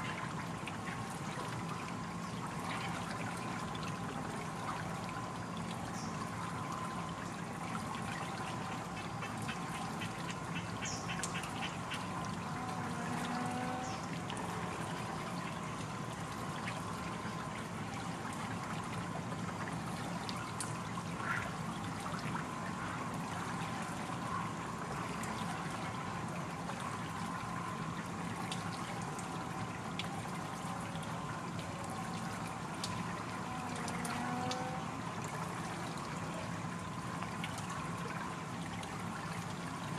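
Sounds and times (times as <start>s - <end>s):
small drips and splashes: 0.0s - 39.9s
stream flowing: 0.0s - 39.9s.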